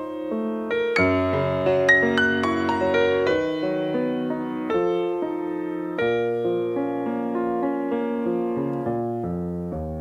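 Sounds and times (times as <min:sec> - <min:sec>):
background piano music: 0:00.0 - 0:10.0.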